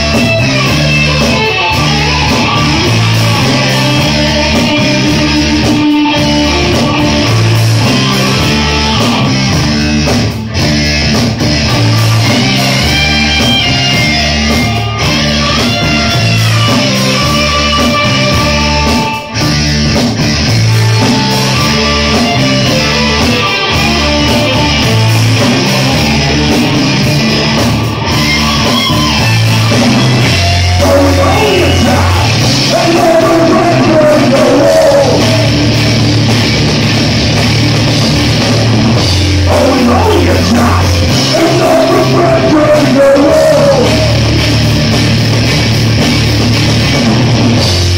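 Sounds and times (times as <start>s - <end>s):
rock band playing: 0.0s - 47.9s.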